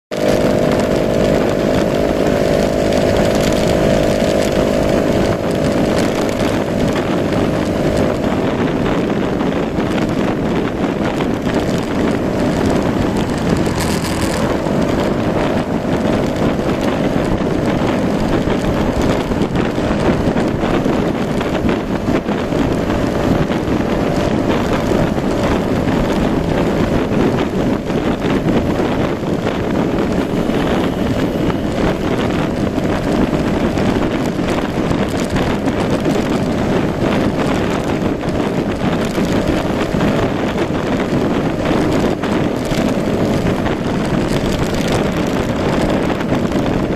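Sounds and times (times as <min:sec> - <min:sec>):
scooter engine running: 0:00.1 - 0:46.9
wind noise on microphone: 0:00.1 - 0:46.9.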